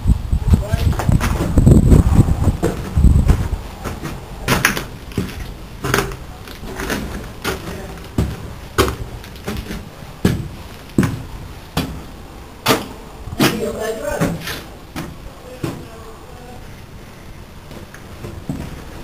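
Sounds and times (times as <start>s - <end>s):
footsteps on gritty concrete stairs: 0.6s - 16.1s, 17.6s - 19.0s.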